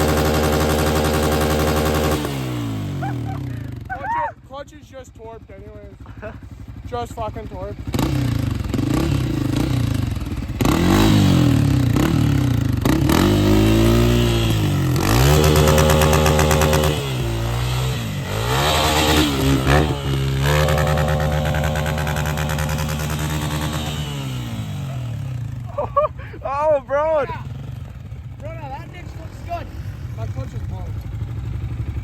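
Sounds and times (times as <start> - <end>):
dirt bike engine revving: 0.0 - 4.2, 6.0 - 32.0.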